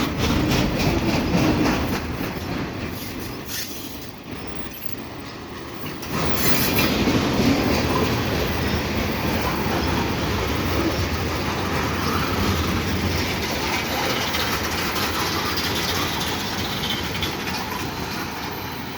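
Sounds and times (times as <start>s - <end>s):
freight train rolling past: 0.0s - 18.9s.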